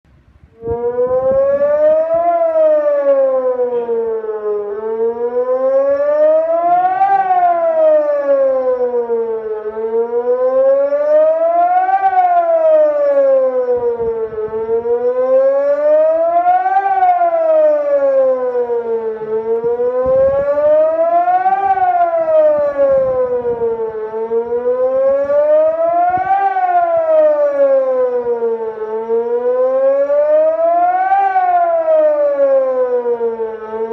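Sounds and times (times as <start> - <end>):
siren rising and falling: 0.2 - 33.9.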